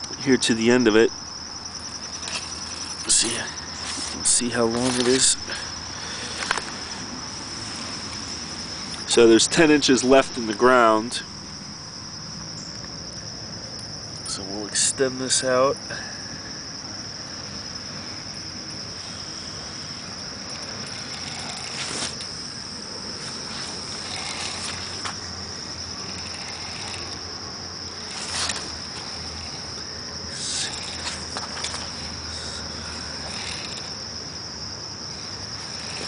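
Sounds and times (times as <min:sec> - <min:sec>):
crickets trilling: 0:00.0 - 0:36.0.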